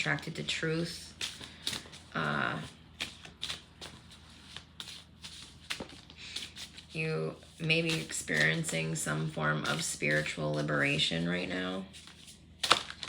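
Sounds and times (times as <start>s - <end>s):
cards being shuffled: 0.8s - 10.7s, 11.9s - 13.0s.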